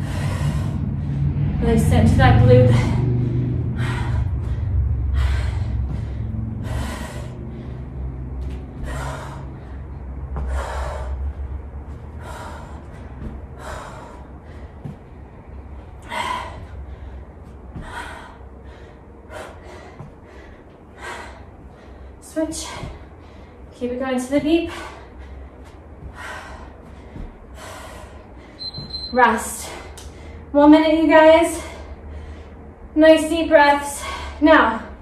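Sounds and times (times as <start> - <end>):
low rumble: 0.0 - 33.0
woman breathing heavily: 0.0 - 35.0.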